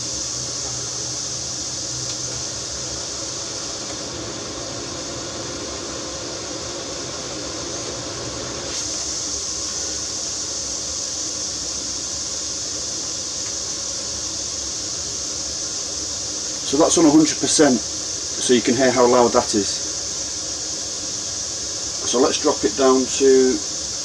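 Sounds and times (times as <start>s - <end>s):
roof vent fan rushing air: 0.0s - 24.0s.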